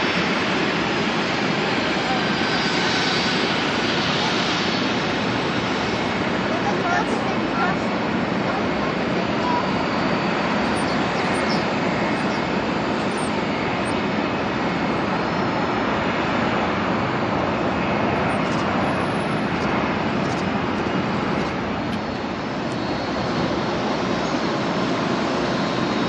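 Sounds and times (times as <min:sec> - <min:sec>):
distant jet engines rushing: 0:00.0 - 0:26.0.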